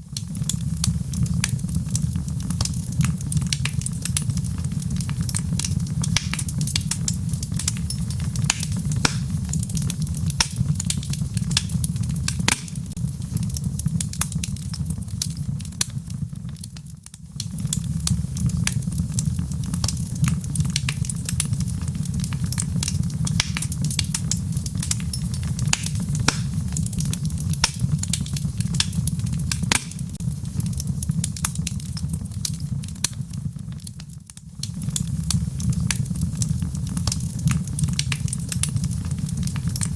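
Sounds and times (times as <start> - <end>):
logs burning in fireplace: 0.0 - 39.9.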